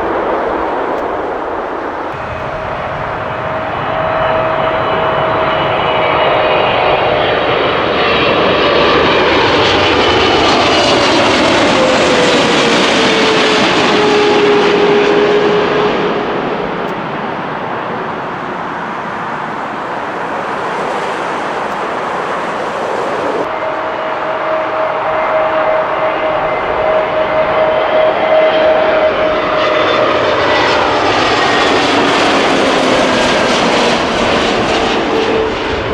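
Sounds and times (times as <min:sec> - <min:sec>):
jet airliner passing by: 0:00.0 - 0:35.9.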